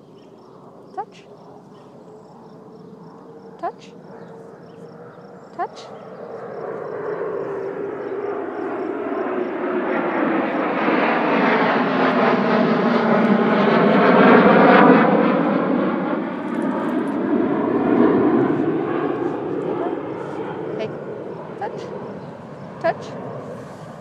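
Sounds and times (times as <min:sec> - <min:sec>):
airplanes flying overhead: 0:00.0 - 0:24.0.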